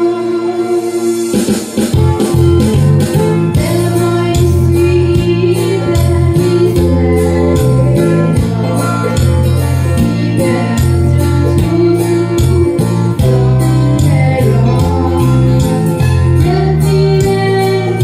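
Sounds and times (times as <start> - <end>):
instrumental accompaniment with beat: 0.0 - 18.0
woman singing into a microphone: 0.0 - 18.0.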